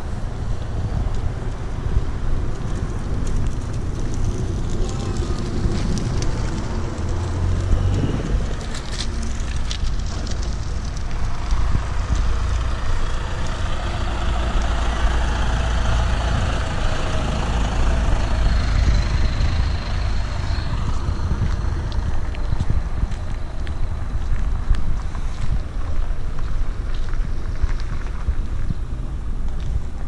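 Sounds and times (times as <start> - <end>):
vehicles driving past: 0.0 - 30.0.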